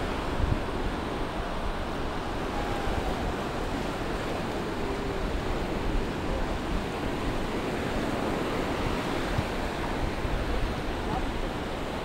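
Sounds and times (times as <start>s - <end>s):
waves washing onto beach: 0.0s - 12.0s
wind buffeting microphone: 0.0s - 12.0s.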